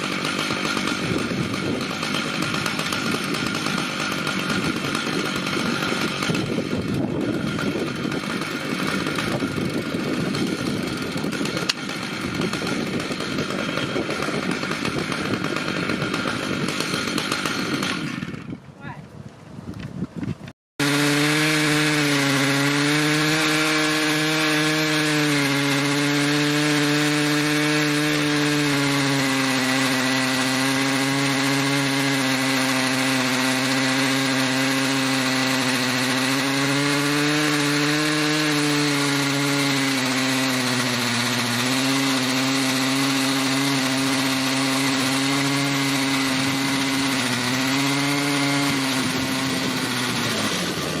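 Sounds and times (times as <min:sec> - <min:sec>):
chainsaw cutting log: 0:00.0 - 0:19.0, 0:19.8 - 0:51.0.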